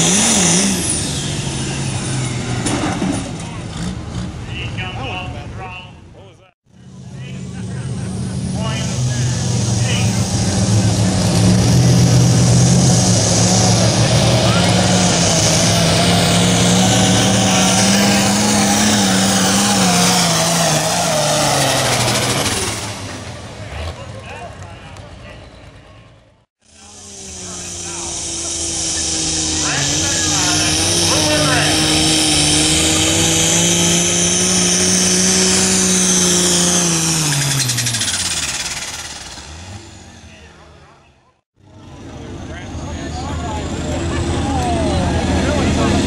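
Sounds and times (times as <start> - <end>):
high turbo whine: 0.0 - 5.8, 6.7 - 46.0
tractor diesel engine running: 0.0 - 46.0.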